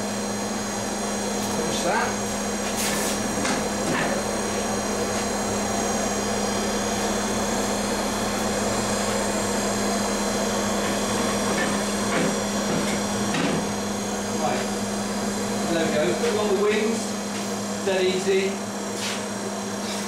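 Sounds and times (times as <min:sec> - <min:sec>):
fan droning: 0:00.0 - 0:20.0.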